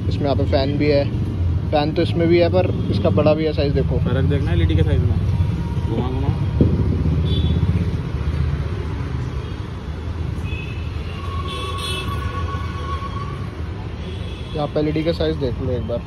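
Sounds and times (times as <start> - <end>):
motor vehicle rumbling: 0.0 - 14.1.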